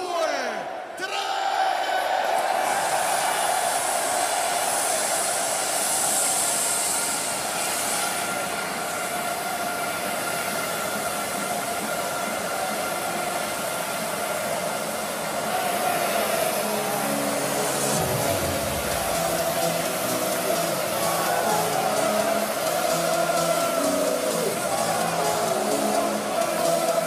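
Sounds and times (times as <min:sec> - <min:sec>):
stadium crowd cheering: 0:00.0 - 0:27.0.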